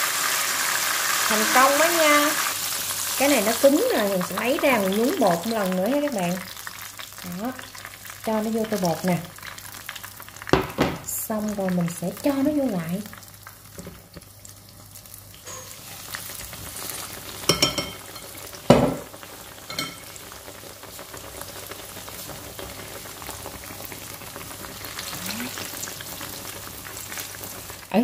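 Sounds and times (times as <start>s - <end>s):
fritters sizzling in hot oil: 0.0s - 28.0s.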